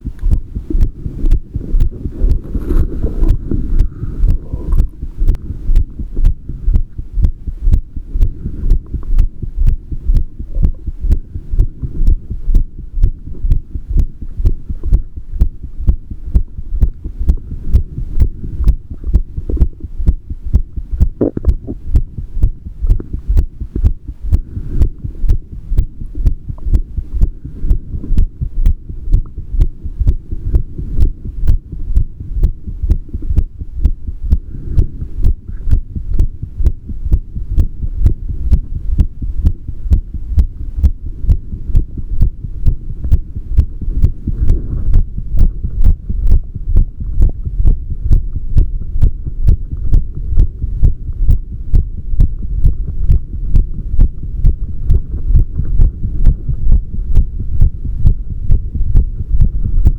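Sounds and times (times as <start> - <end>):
heartbeat: 0.0 - 59.9.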